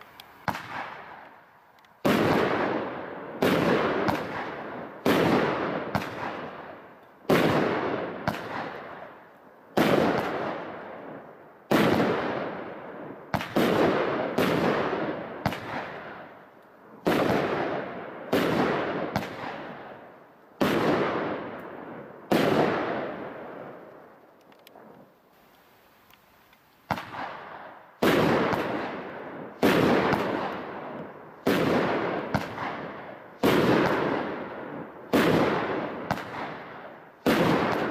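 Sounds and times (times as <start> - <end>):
fireworks bangs with rolling echo: 0.0 - 1.4, 2.0 - 25.1, 26.9 - 37.9.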